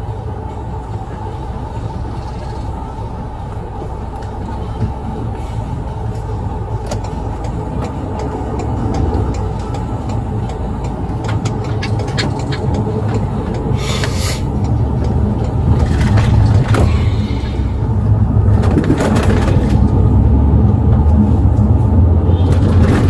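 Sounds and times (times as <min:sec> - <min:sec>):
vehicle rumbling in motion: 0:00.0 - 0:23.0.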